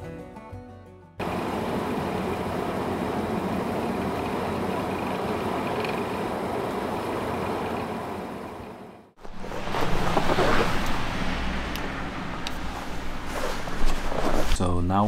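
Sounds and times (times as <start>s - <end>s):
car road and engine noise: 1.2s - 14.5s.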